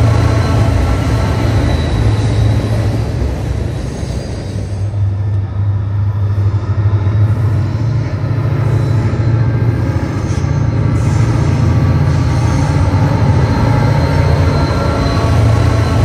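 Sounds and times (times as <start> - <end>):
locomotive engine rumble: 0.0 - 16.0
rail noise: 0.0 - 16.0.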